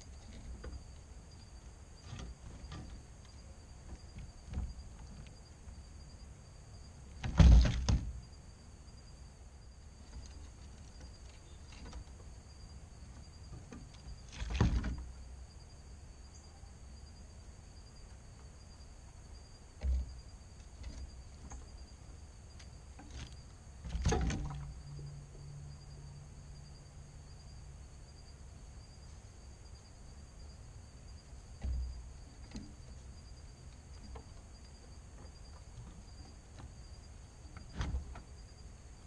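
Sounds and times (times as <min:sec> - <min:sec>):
faint high-pitched hum: 0:00.0 - 0:39.0.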